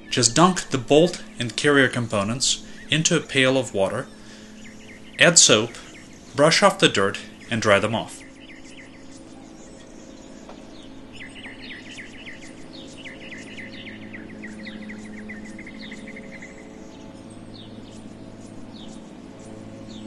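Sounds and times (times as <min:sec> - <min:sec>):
low background hum: 0:00.0 - 0:20.0
songbird trilling: 0:00.0 - 0:20.0.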